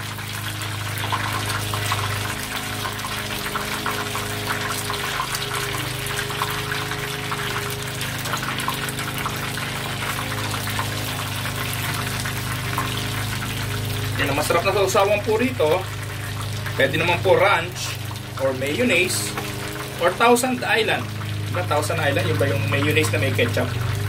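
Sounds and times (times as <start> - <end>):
deep-frying crackling sizzle: 0.0 - 24.0
low hum: 0.0 - 24.0.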